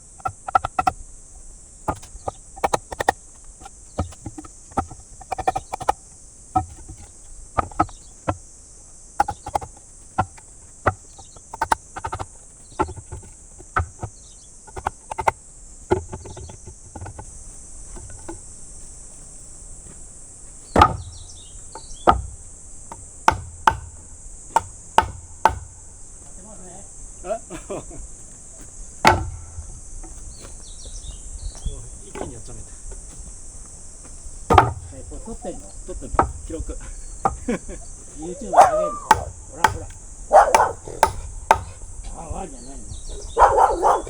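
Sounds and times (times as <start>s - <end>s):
crickets droning: 0.0s - 44.0s
firewood knocking together: 0.2s - 1.0s, 1.8s - 8.5s, 9.2s - 18.5s, 19.8s - 26.7s, 27.5s - 44.0s
heavy thuds: 1.7s - 8.5s, 9.2s - 44.0s.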